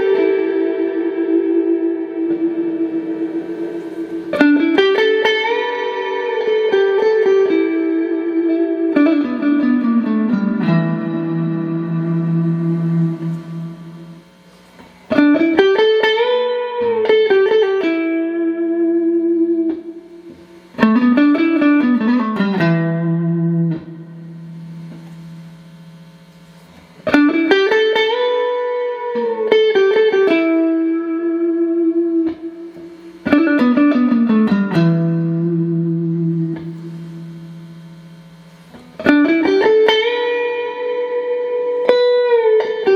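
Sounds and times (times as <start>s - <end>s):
clean electric guitar: 0.0s - 42.9s.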